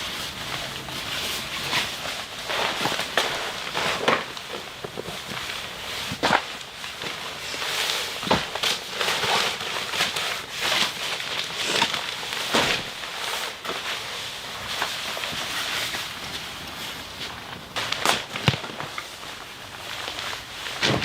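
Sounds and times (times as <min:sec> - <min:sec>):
rustling: 0:00.0 - 0:21.0.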